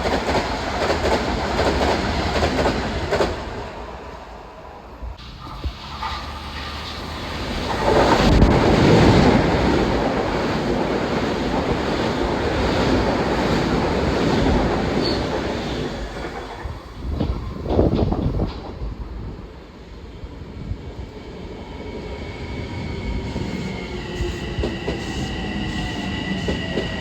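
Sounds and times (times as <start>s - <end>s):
train wheels rumbling on rails: 0.0s - 4.3s, 5.1s - 27.0s.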